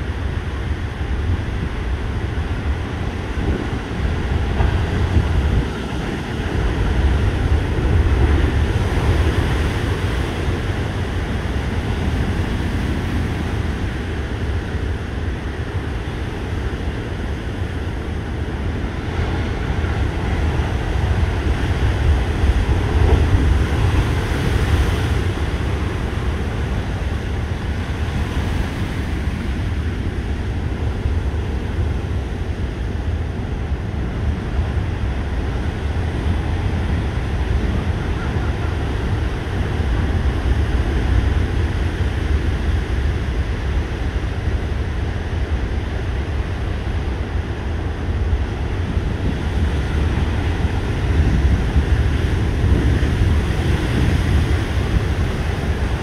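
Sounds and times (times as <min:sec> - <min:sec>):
heavy surf pounding shore: 0:00.0 - 0:56.0
wind buffeting microphone: 0:00.0 - 0:56.0.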